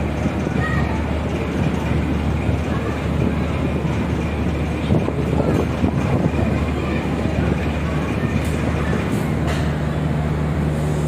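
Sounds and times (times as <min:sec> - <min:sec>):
motorboat engines droning: 0:00.0 - 0:11.0.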